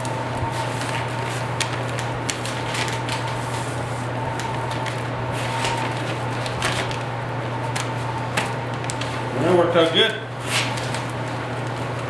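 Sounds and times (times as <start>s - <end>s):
steady low hum: 0.0s - 12.0s
vinyl seat cover rustling: 0.1s - 12.0s.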